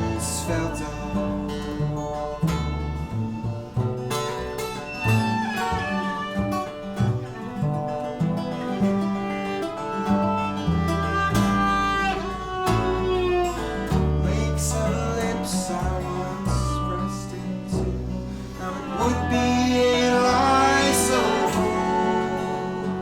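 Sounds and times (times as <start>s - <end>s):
bass line: 0.0s - 7.9s, 10.0s - 23.0s
bowed viola: 0.0s - 23.0s
strummed acoustic guitar: 0.0s - 23.0s.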